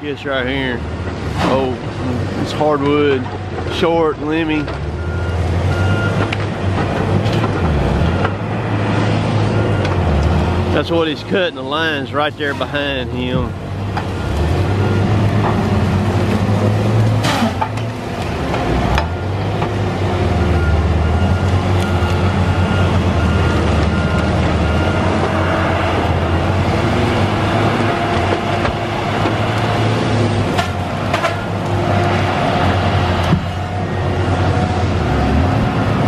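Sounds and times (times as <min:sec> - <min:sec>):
diesel engine low drone: 0:00.0 - 0:36.0.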